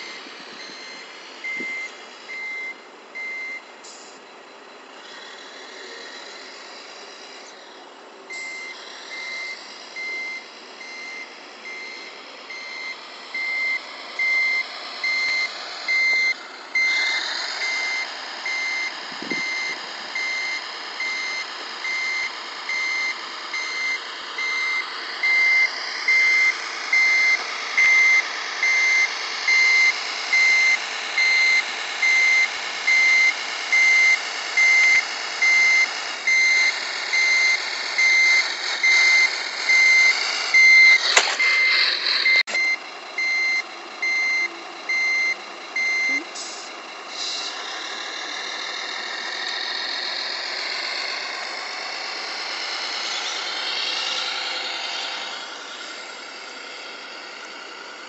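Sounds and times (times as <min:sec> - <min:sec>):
electronic reversing beeps: 0:00.0 - 0:57.5
simulated truck engine: 0:00.0 - 0:58.0.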